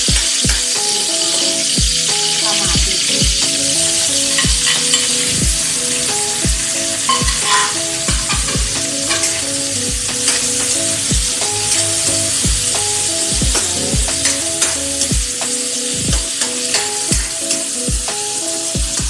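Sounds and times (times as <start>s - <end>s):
background music with beat: 0.0s - 19.0s
food sizzling in hot oil: 0.0s - 19.0s.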